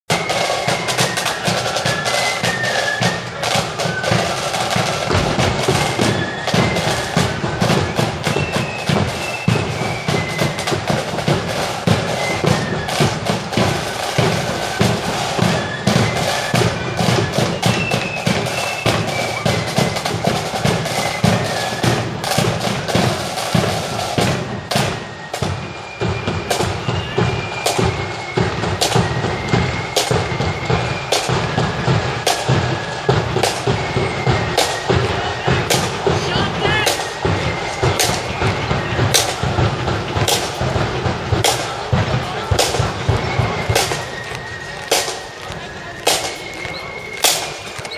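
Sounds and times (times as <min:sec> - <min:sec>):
flute melody: 0:00.1 - 0:47.9
rattling snare drums: 0:00.1 - 0:47.9.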